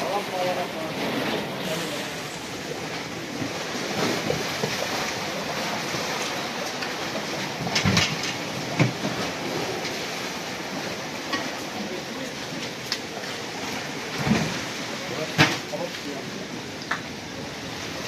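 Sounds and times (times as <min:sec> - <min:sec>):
sea water splashing against quay: 0:00.0 - 0:18.0.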